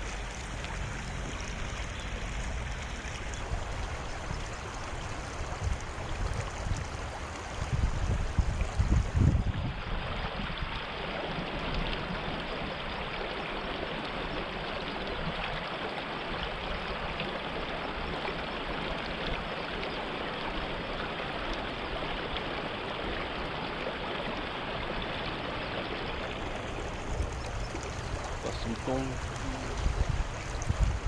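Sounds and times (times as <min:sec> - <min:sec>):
river water rushing: 0:00.0 - 0:31.0.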